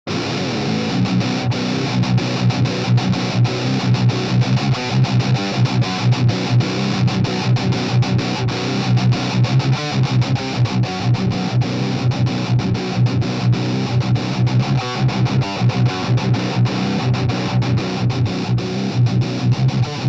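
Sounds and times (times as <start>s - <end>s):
distorted electric guitar riff: 0.1s - 20.0s.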